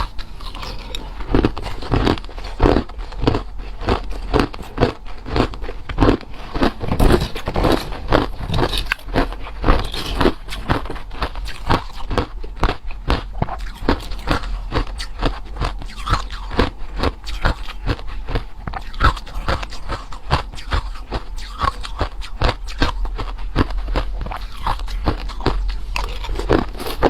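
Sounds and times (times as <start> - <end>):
person chewing ice crunching: 0.0 - 27.0.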